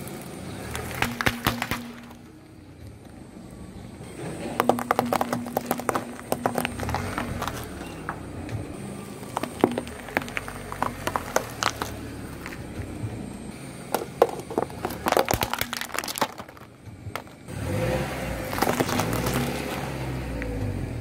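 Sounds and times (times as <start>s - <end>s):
tyre crushing things on asphalt: 0.0s - 2.5s, 4.0s - 20.7s
car engine running at low revs: 1.8s - 21.0s.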